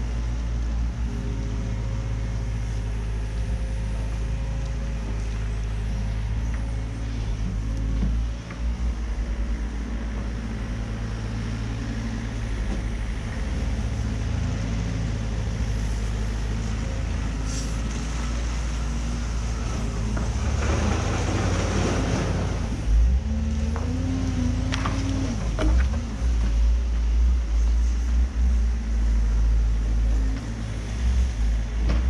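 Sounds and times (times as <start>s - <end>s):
excavator diesel engine digging: 0.0s - 32.0s.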